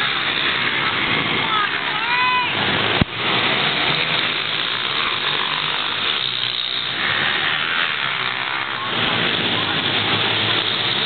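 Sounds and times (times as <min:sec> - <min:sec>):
small motorbike engines buzzing: 0:00.0 - 0:11.0.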